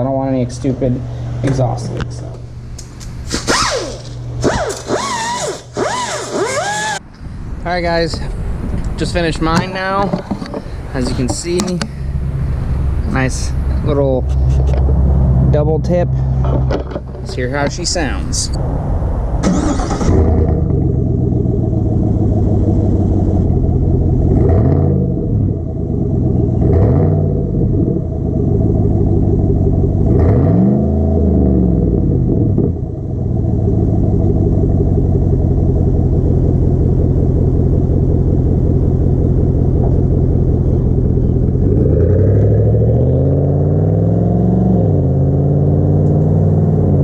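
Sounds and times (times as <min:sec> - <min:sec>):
truck engine idling and revving: 0:00.0 - 0:47.0.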